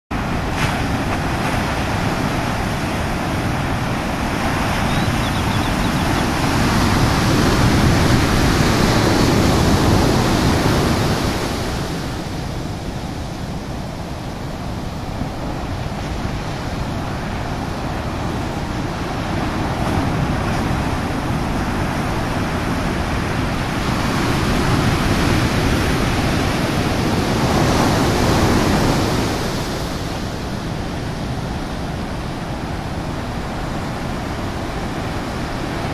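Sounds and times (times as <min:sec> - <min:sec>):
ocean surf breaking: 0:00.1 - 0:35.9.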